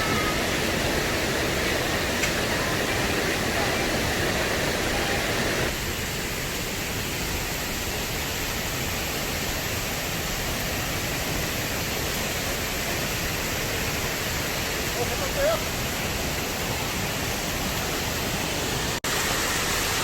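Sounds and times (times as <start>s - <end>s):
stream running: 0.0s - 20.0s.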